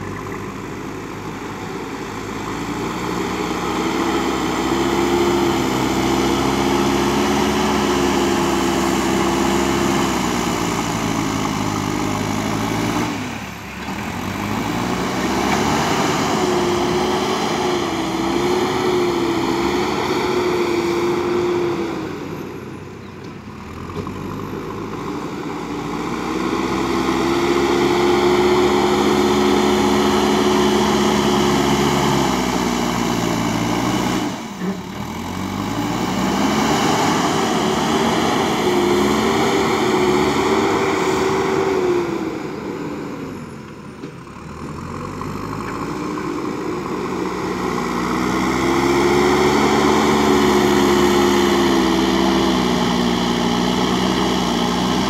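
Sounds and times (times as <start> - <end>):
diesel engine running hard: 0.0 - 55.0.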